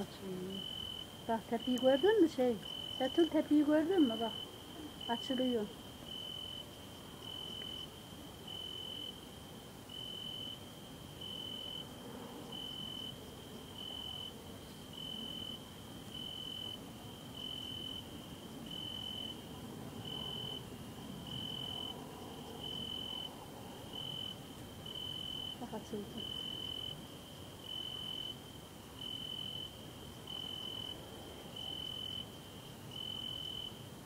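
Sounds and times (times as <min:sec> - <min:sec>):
cricket trilling: 0:00.0 - 0:34.0
faint background hum: 0:00.0 - 0:34.0.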